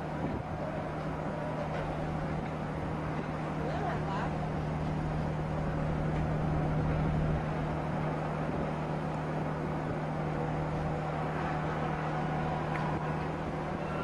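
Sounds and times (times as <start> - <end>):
ship engines droning: 0.0 - 14.0
wind and water rushing: 0.0 - 14.0.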